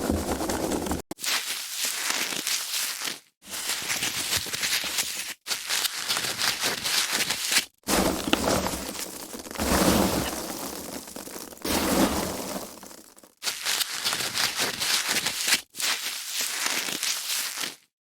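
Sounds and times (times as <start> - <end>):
foam packaging being rubbed: 0.0 - 10.8, 11.6 - 17.9.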